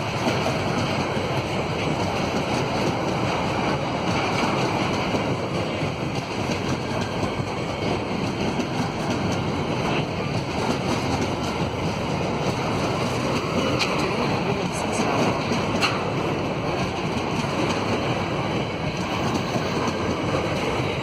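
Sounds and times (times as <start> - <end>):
faint rail clicks: 0.0 - 21.0
train wheels rumbling on rails: 0.0 - 21.0.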